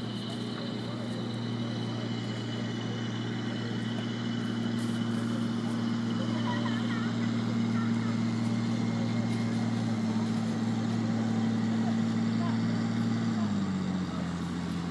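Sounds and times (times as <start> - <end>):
boat engine humming: 0.0 - 14.9.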